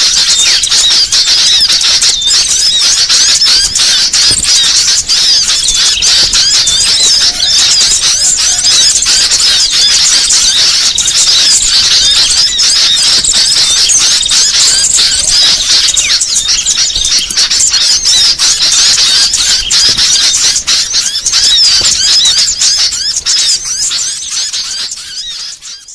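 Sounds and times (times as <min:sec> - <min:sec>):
songbirds chorus chirping: 0:00.0 - 0:25.9.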